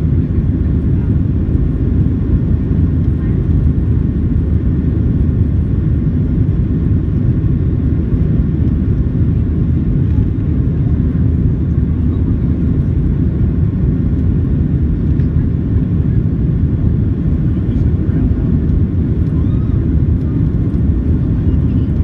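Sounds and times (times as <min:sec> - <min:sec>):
deep jet engine rumble: 0:00.0 - 0:22.0.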